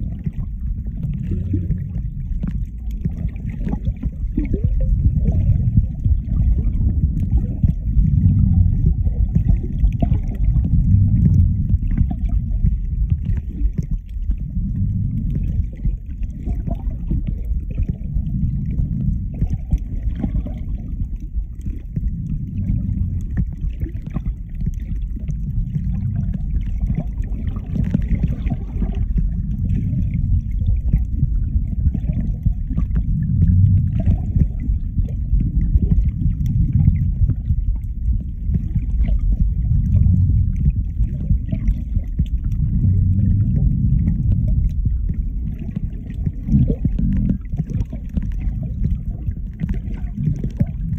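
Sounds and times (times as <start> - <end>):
underwater rumble of moving water: 0.0 - 50.9.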